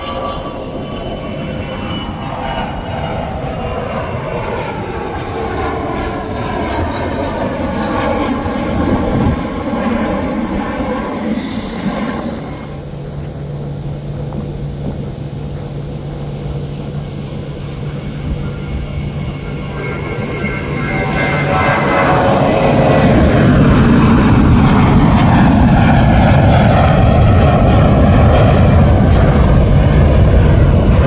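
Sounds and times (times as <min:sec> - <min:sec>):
jet engine whine climbing away: 0:00.0 - 0:31.0
jet humming on runway: 0:00.0 - 0:31.0.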